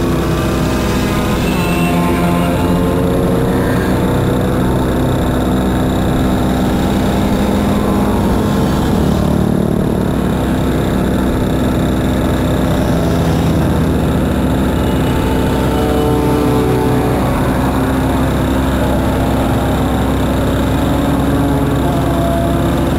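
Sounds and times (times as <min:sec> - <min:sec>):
moped engine running: 0:00.0 - 0:22.9
motorcycle engines behind: 0:00.0 - 0:22.9.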